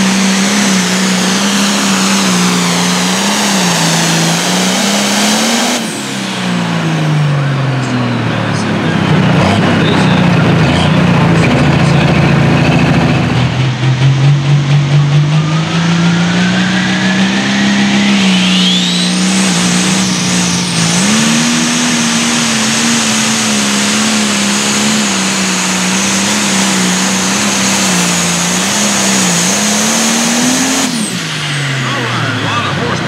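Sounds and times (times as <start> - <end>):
diesel tractor engine under full load: 0.0 - 33.0
turbo whine: 0.0 - 33.0.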